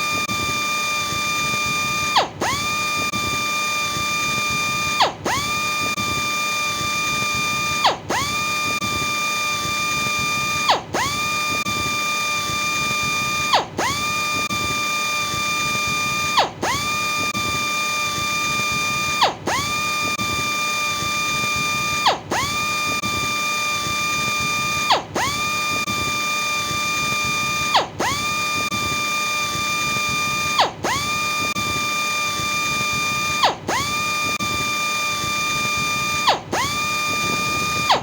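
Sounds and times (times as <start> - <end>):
electric sander whining: 0.0 - 38.0.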